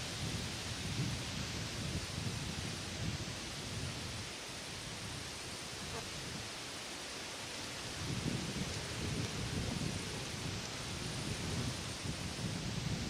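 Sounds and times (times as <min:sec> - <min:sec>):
wind gusts on microphone: 0:00.0 - 0:06.9, 0:07.5 - 0:13.0
outdoor hiss: 0:00.0 - 0:13.0.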